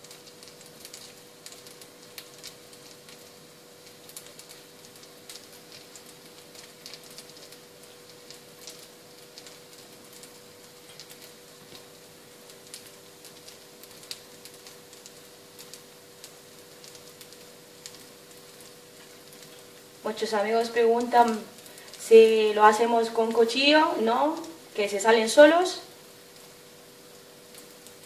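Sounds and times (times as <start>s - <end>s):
batter sizzling and crackling: 0.0s - 28.0s
faint steady hum: 0.0s - 28.0s.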